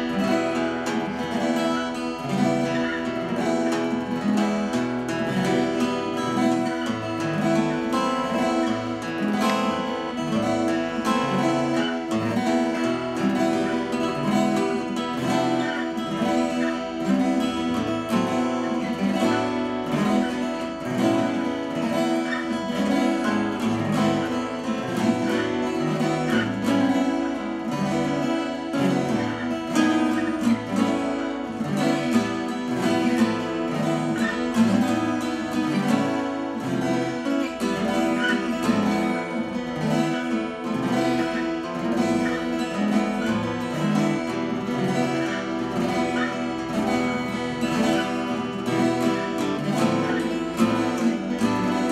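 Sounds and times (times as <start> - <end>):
acoustic guitars strumming: 0.0 - 51.9.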